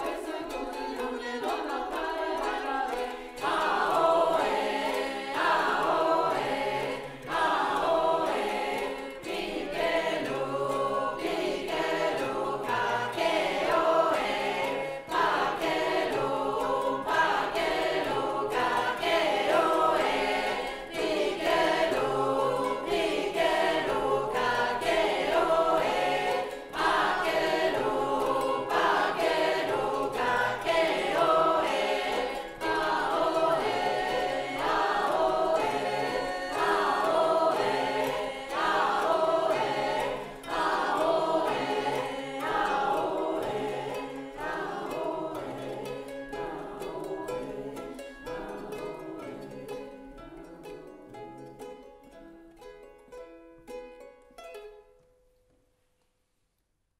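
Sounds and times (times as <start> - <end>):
mixed choir singing: 0.0 - 51.7.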